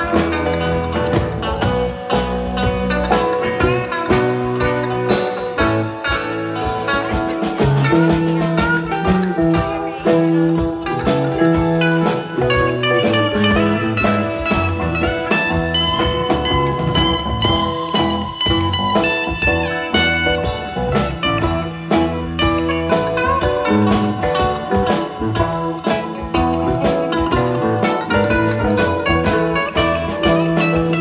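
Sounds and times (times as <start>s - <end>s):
band playing blues-rock: 0.0s - 31.0s
guitar holding long high notes: 0.0s - 31.0s.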